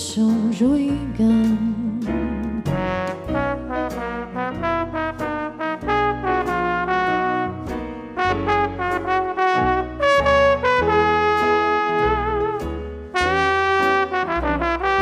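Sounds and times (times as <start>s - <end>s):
live band playing: 1.4s - 15.0s
brass lead melody: 2.6s - 15.0s.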